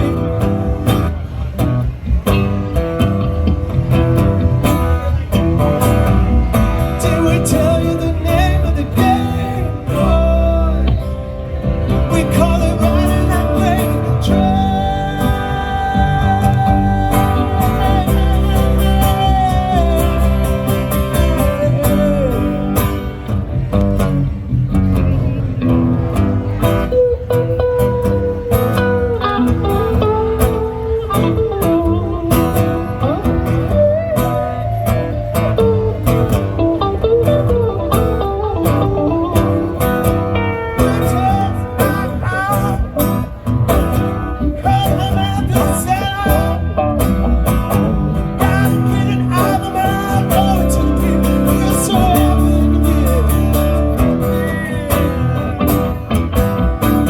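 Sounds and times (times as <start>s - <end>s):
live rock music: 0.0s - 57.0s.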